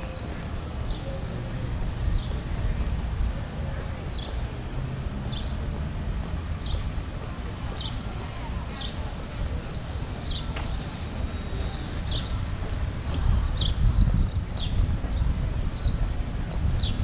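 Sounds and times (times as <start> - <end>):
walking noise: 0.0 - 17.0
wind rumble on microphone: 0.0 - 17.0.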